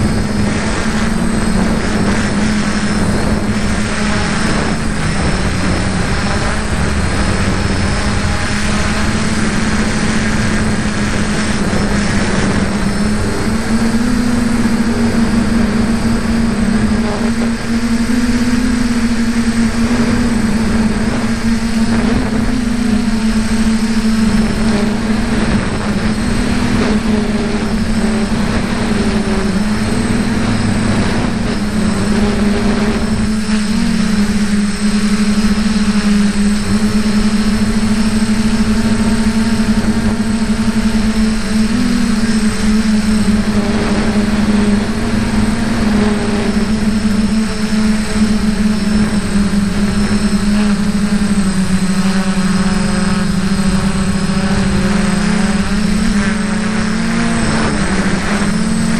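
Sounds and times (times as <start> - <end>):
quadcopter motors buzzing: 0.0 - 58.9.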